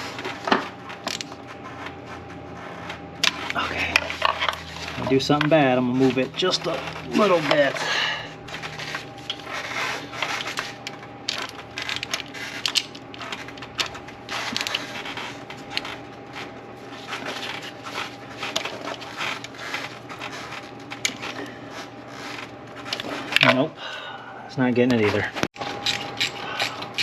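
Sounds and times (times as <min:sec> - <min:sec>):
faint steady hum: 0:00.0 - 0:27.0
hand tools clicking and scraping: 0:03.2 - 0:23.6, 0:24.9 - 0:27.0.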